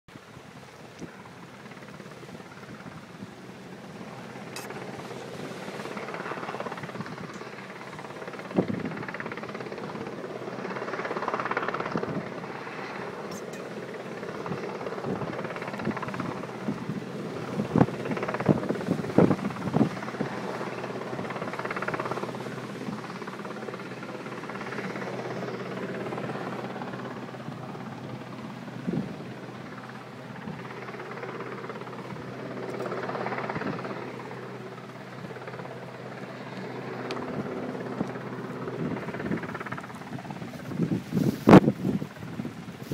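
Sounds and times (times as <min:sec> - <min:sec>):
distant helicopter rotor hum: 0:00.1 - 0:42.9
wind on microphone: 0:02.2 - 0:34.5, 0:35.3 - 0:42.9.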